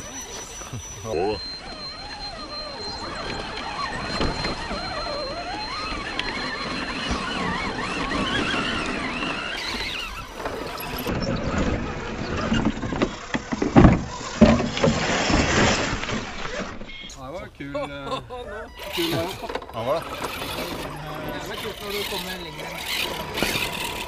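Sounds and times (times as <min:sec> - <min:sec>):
electric motors whining: 0:00.0 - 0:17.6, 0:18.3 - 0:24.0.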